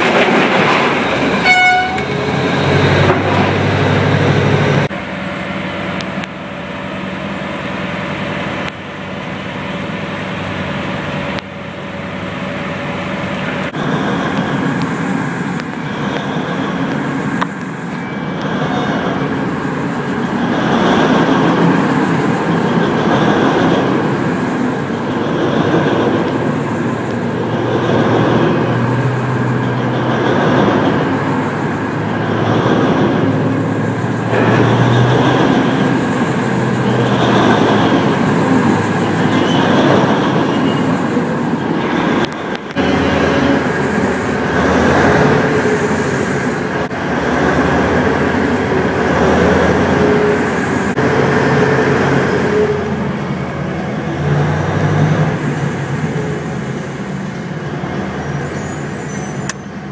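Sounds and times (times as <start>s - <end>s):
heavy machinery running: 0.0s - 59.9s.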